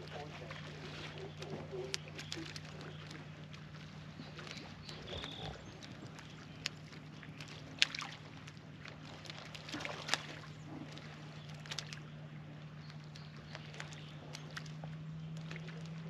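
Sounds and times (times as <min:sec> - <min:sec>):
steady low hum: 0:00.0 - 0:16.0
water splashes and plops: 0:00.0 - 0:16.0.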